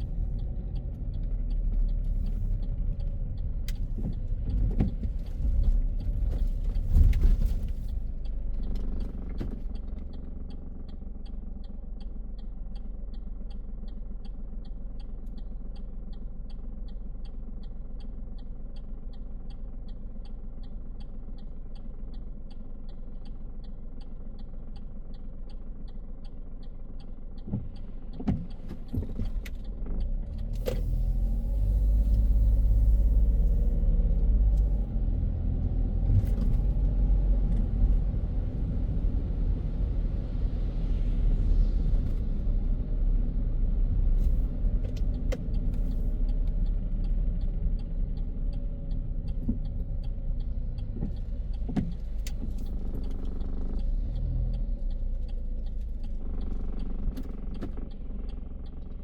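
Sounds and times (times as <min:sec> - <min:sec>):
car engine: 0:00.0 - 0:59.0
turn signal ticking: 0:00.0 - 0:59.0.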